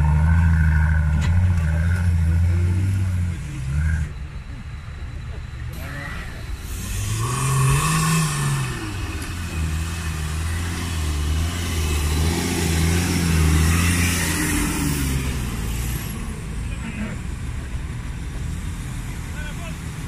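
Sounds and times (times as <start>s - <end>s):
off-road engine revving: 0.0s - 20.0s.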